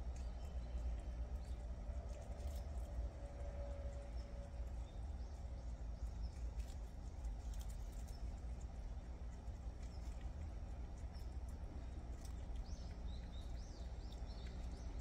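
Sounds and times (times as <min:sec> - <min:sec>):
animals gnawing corn: 0:00.0 - 0:15.0
steady low hum: 0:00.0 - 0:15.0.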